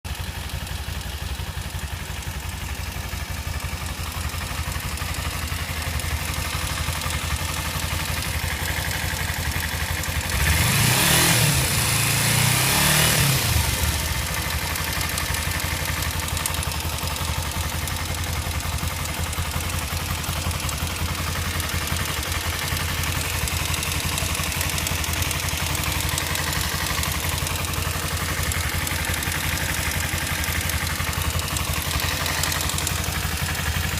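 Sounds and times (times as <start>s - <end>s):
motorcycle engine idling: 0.0s - 33.9s
engine ticking noise: 0.1s - 33.9s
motorcycle engine revving: 0.1s - 33.9s.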